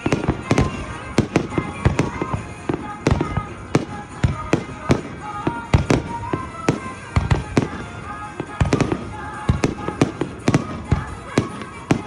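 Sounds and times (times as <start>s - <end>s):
fireworks bangs and booms: 0.0s - 12.0s.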